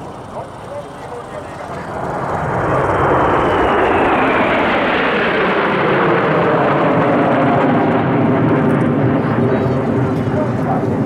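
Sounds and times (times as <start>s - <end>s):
jet engines passing with whine: 0.0s - 11.0s.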